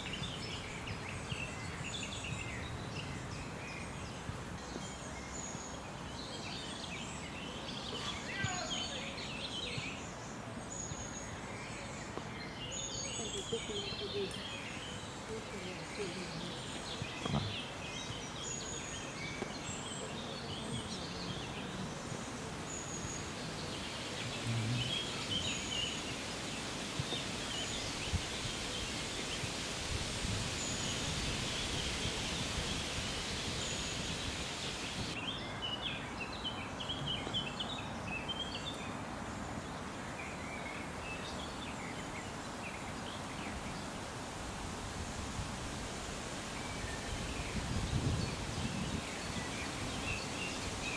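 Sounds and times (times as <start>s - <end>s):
steady noisy hiss: 0.0s - 50.9s.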